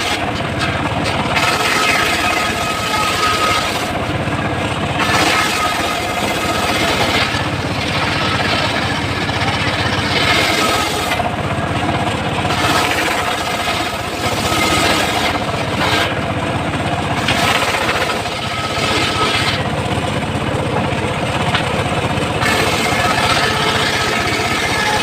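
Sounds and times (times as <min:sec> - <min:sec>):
saw blade cutting wood: 0:00.0 - 0:04.1, 0:04.9 - 0:25.0
engine droning: 0:00.0 - 0:25.0.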